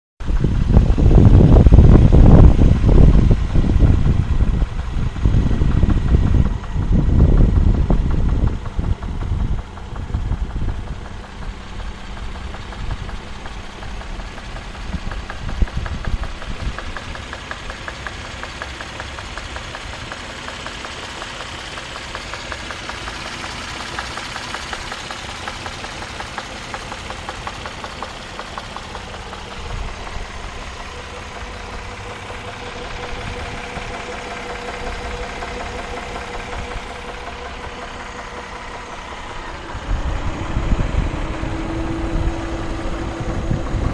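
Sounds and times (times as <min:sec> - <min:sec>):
engine idling with knock: 0:00.2 - 0:43.9
heavy low rumbles: 0:00.2 - 0:43.9.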